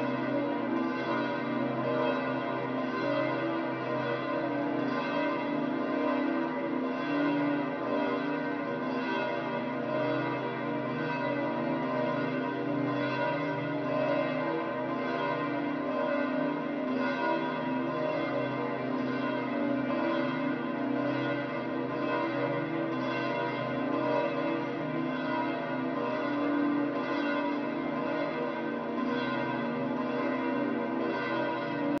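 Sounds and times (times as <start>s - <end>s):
large bells pealing: 0.0s - 32.0s.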